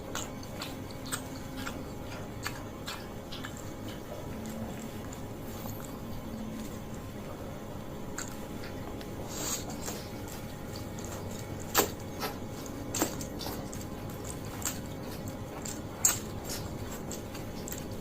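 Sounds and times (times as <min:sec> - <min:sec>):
person chewing noodles: 0:00.0 - 0:18.0.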